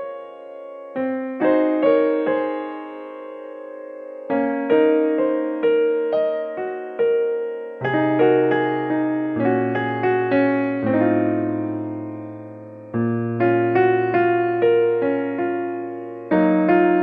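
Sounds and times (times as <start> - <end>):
gentle electric piano melody: 0.0 - 17.0.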